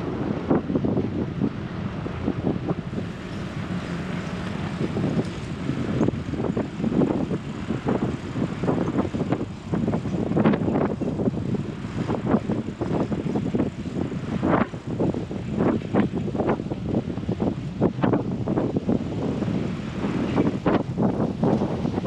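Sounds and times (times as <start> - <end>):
street traffic hum: 0.0 - 22.0
wind buffeting microphone: 0.0 - 22.0.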